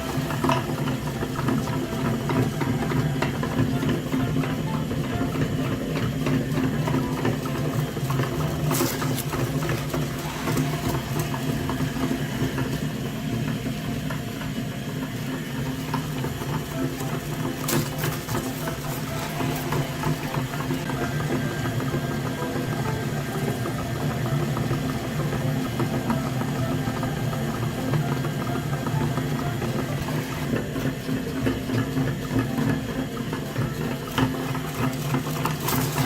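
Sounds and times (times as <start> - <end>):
small tractor engine running: 0.0 - 36.0.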